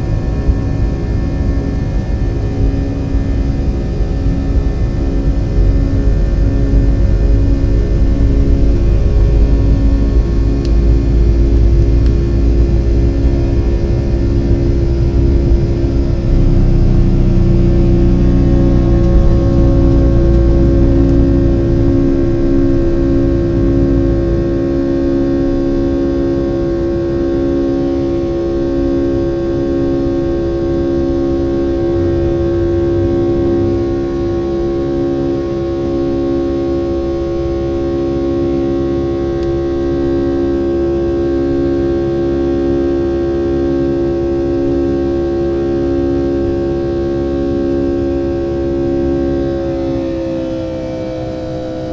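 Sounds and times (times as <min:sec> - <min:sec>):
heavy low rumble: 0:00.0 - 0:51.9
jet engine whine: 0:00.0 - 0:51.9.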